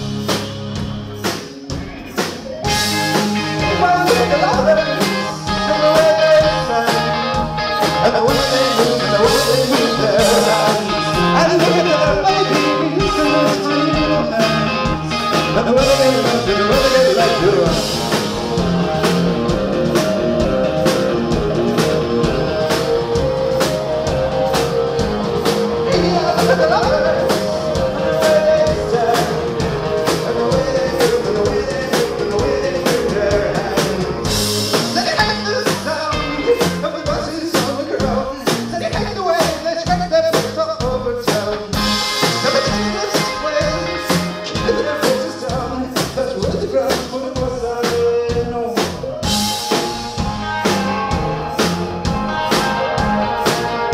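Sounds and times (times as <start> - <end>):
drums beating: 0.0 - 53.9
live rock band playing: 0.0 - 53.9.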